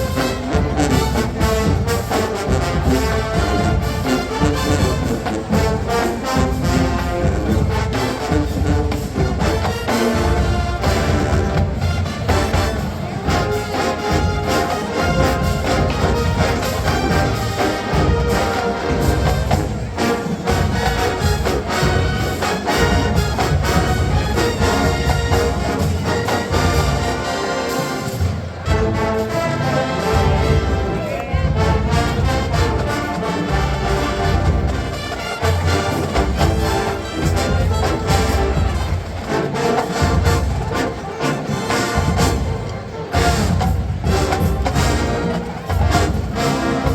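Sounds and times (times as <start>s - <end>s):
drumline steady beat: 0.0s - 46.9s
marching band brass: 0.0s - 46.9s.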